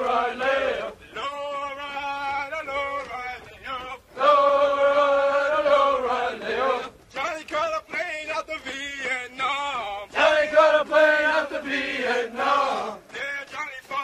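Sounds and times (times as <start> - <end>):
men chanting marching cadence: 0.0 - 14.0.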